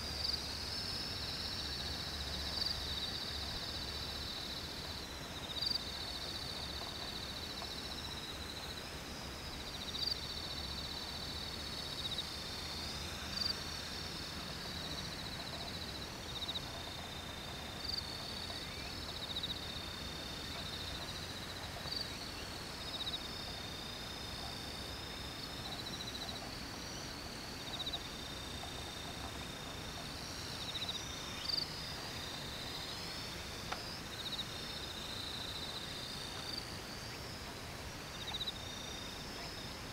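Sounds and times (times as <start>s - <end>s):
insects trilling: 0.0s - 39.9s
short high insect call: 0.0s - 39.9s.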